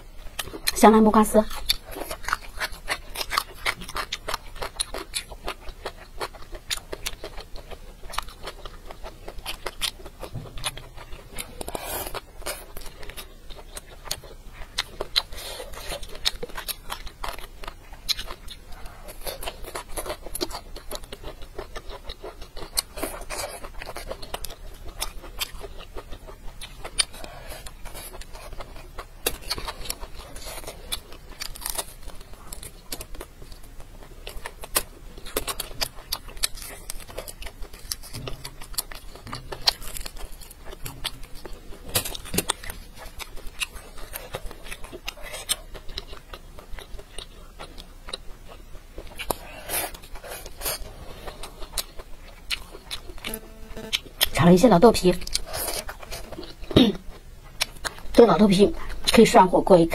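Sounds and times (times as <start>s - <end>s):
person chewing and crunching: 0.0s - 59.9s.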